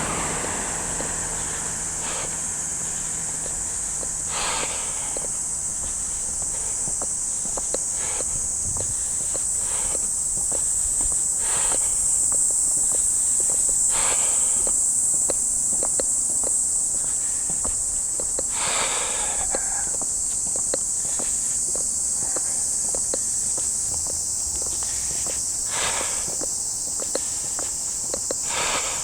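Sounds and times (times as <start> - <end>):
cicada chorus drone: 0.0 - 29.0
footsteps clicking on pavement: 0.0 - 29.0.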